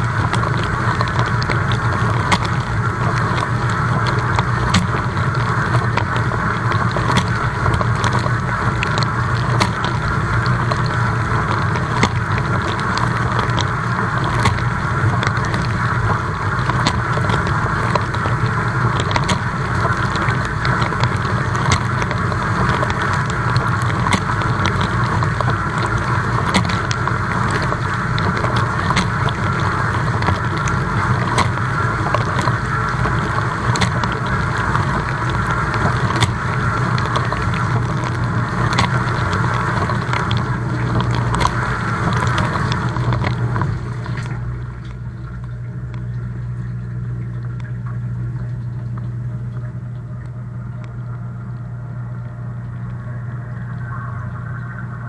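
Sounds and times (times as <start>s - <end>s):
water spraying over dishes: 0.0s - 44.5s
pump motor humming: 0.0s - 55.0s.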